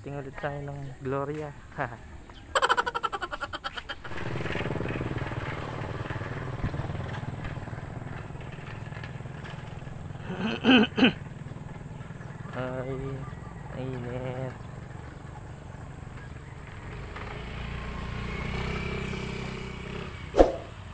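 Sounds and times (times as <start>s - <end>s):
motorcycle engine running: 4.0s - 20.9s.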